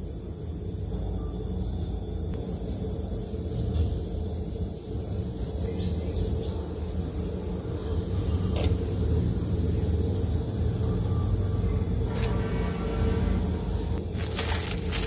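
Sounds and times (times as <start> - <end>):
gas burner flame rumbling: 0.0 - 15.0.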